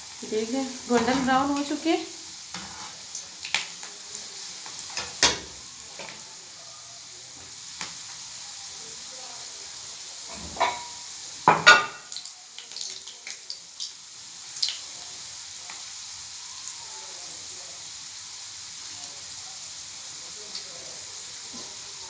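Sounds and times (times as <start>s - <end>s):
rolls deep-frying in oil: 0.0s - 22.0s.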